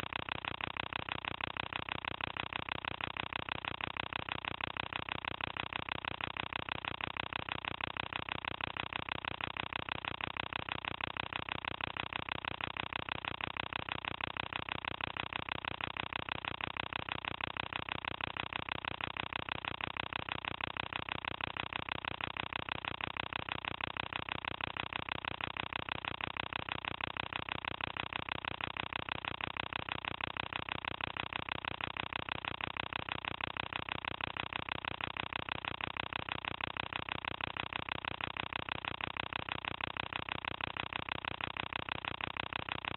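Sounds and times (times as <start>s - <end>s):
film projector running: 0.0s - 42.9s.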